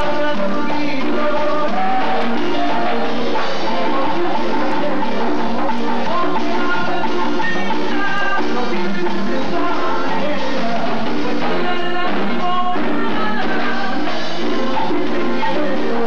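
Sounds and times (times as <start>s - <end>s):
drum kit beat: 0.0s - 16.0s
latin band music: 0.0s - 16.0s
person singing: 0.0s - 16.0s.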